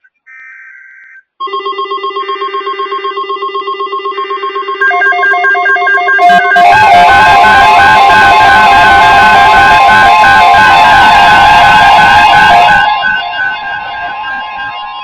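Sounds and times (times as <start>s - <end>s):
rapid pulsing beep: 1.2s - 15.0s
two-note alternating beep: 1.4s - 15.0s.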